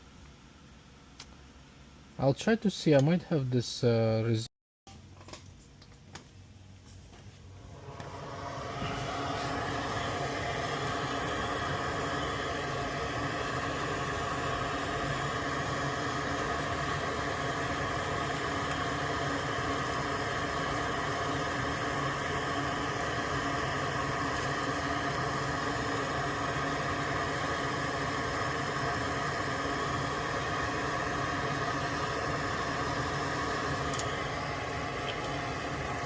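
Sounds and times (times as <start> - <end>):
electric fan whirring hum: 0.0 - 36.0.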